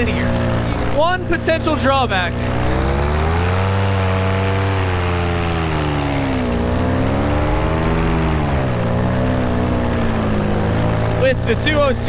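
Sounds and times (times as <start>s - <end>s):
paramotor engine and propeller: 0.0s - 12.0s.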